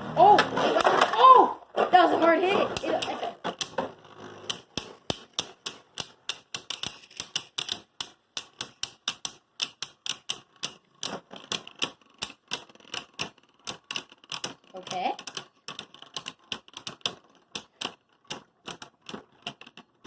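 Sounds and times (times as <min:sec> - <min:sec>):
spinning tops clicking together: 0:02.7 - 0:20.0.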